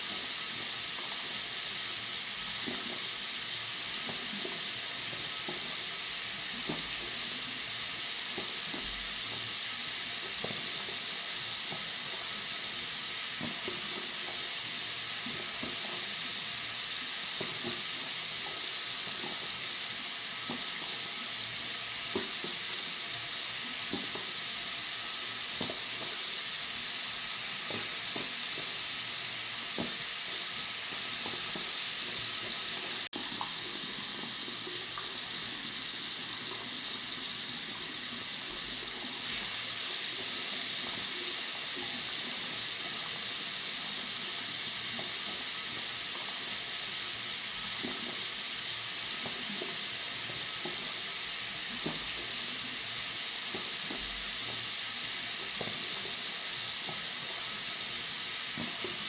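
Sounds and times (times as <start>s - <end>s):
tap water running into sink: 0.0s - 59.0s.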